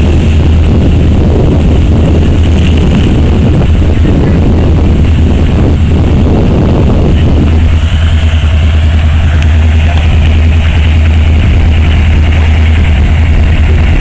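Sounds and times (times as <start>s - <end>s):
high hiss: 0.0s - 14.0s
locomotive engine rumble: 0.0s - 14.0s.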